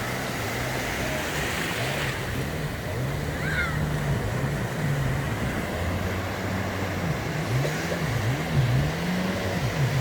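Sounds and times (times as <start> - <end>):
jet ski engine revving: 0.0 - 10.0
wind and sea hiss: 0.0 - 10.0.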